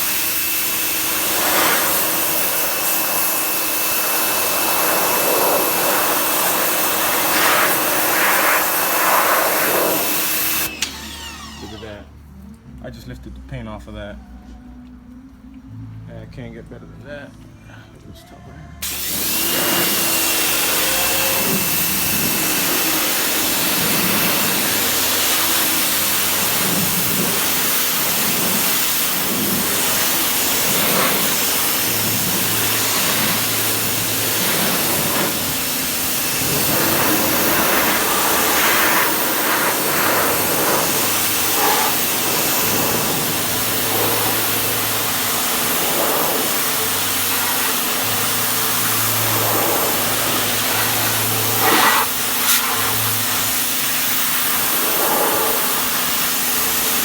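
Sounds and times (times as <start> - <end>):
pressure washer water jet hiss: 0.0 - 12.0, 18.8 - 57.0
electric pump motor hum: 0.0 - 12.1, 18.8 - 57.0.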